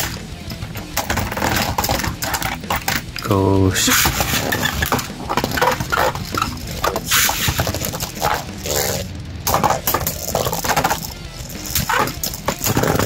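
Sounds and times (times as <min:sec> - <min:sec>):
spinning tops clattering: 0:00.0 - 0:03.3, 0:03.9 - 0:13.0.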